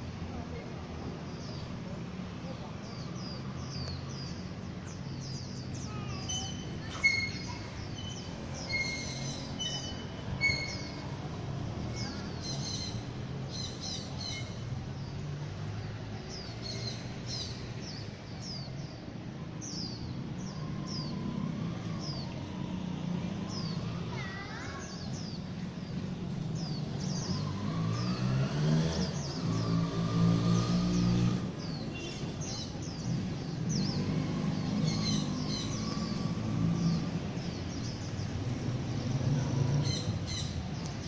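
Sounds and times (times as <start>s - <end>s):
distant traffic hum: 0.0s - 41.0s
small birds chirping: 0.3s - 41.0s.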